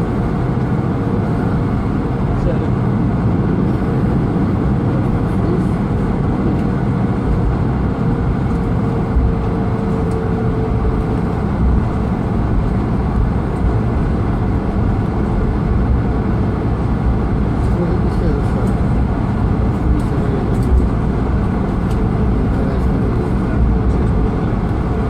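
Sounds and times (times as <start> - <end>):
airplane cabin engine rumble: 0.0 - 25.0.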